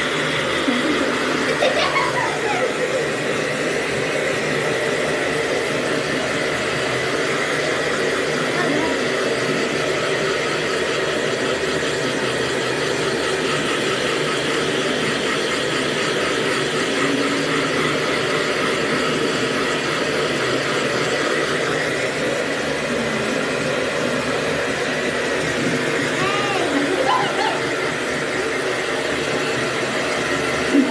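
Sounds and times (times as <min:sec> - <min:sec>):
hair dryer running: 0:00.0 - 0:30.9.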